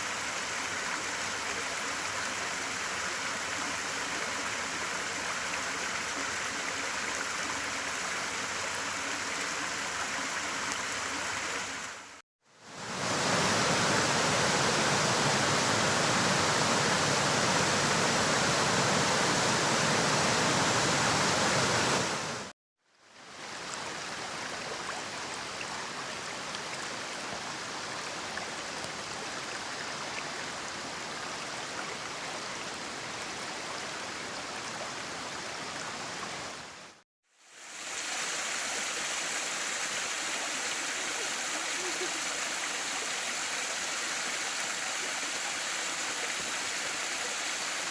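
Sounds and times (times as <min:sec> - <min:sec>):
stream and waterfall flowing: 0:00.0 - 0:47.9.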